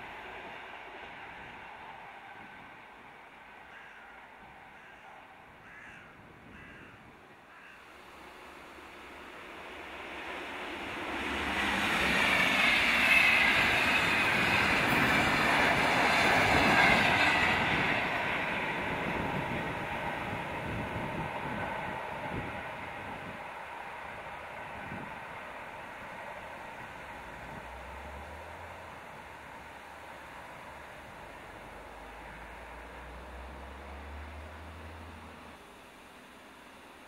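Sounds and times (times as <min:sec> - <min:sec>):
passenger train passing at speed: 0:00.0 - 0:37.0.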